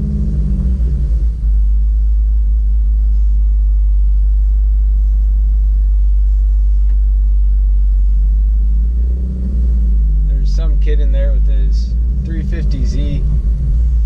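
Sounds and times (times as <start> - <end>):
car engine drone in cabin: 0.0 - 14.0
road noise: 0.0 - 14.0.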